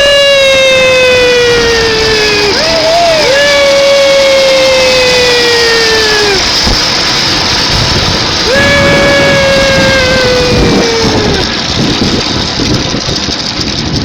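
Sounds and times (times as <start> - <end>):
loud steady rushing noise: 0.0 - 14.0
pulley squealing: 0.0 - 14.0.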